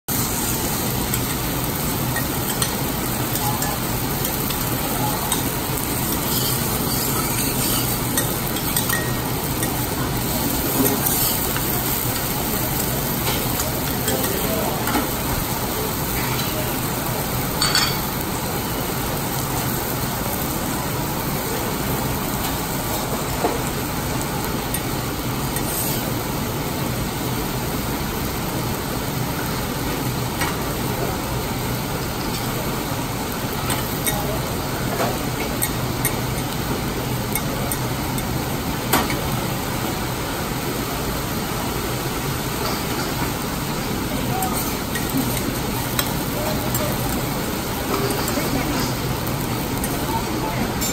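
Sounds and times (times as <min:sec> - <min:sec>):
food sizzling on a steel griddle: 0:00.1 - 0:50.9.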